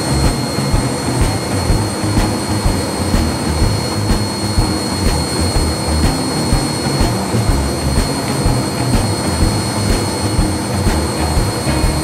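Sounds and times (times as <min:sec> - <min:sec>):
high whine: 0:00.0 - 0:12.0
washing machine spinning: 0:00.0 - 0:12.0.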